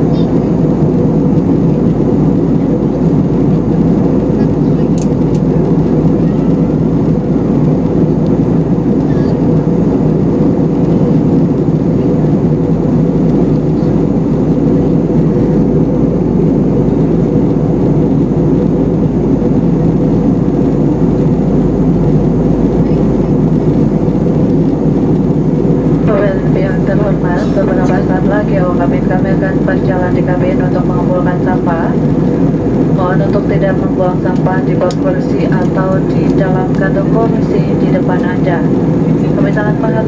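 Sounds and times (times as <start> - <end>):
airliner cabin noise: 0.0 - 40.0
steady low hum: 0.0 - 40.0.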